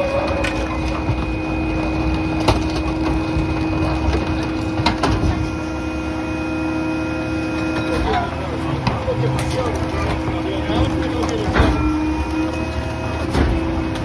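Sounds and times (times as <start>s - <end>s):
garbage truck engine and hydraulic whine: 0.0s - 14.0s.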